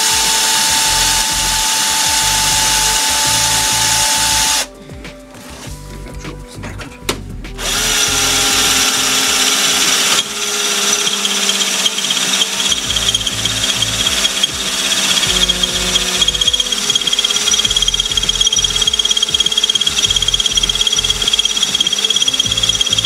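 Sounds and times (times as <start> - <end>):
electric drill drilling metal: 0.0 - 4.7, 7.6 - 23.0
high whine: 0.0 - 23.0.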